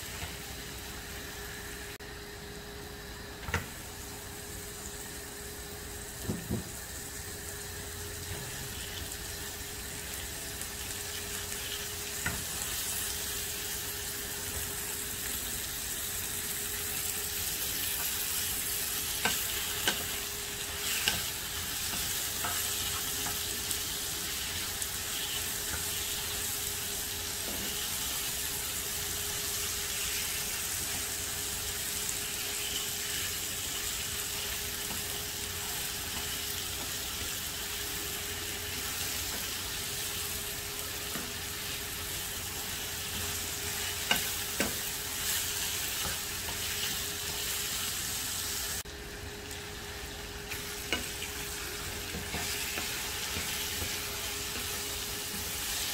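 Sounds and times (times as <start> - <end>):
meat sizzling in a frying pan: 0.0 - 2.0, 2.9 - 55.9.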